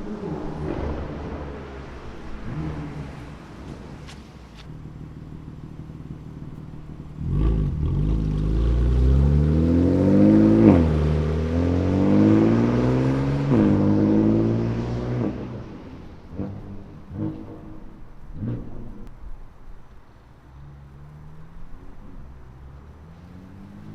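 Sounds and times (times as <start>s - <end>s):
car engine accelerating hard: 0.0s - 19.1s, 20.5s - 23.9s.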